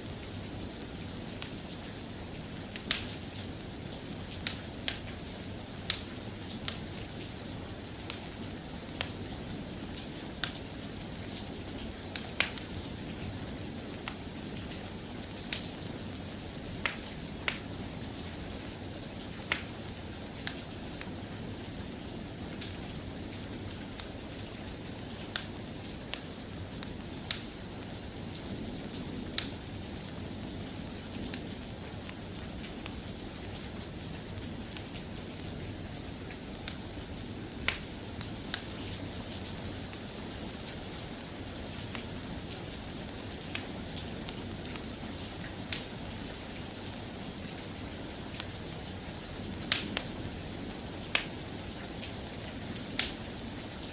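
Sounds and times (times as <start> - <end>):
soft rain: 0.0 - 53.9.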